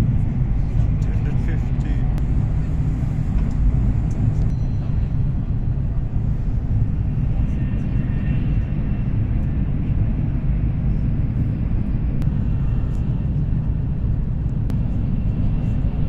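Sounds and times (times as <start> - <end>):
train cabin low rumble: 0.0 - 16.0.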